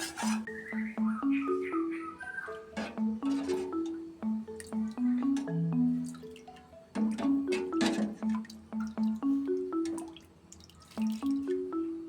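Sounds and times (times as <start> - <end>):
bouncy marimba-like melody: 0.4 - 10.4, 11.0 - 12.0.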